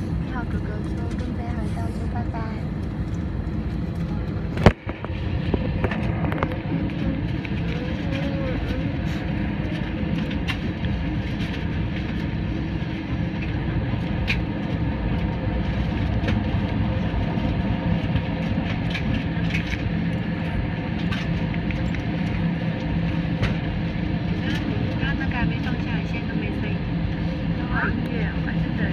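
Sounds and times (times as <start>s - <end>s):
jet engines rumbling: 0.0s - 28.9s.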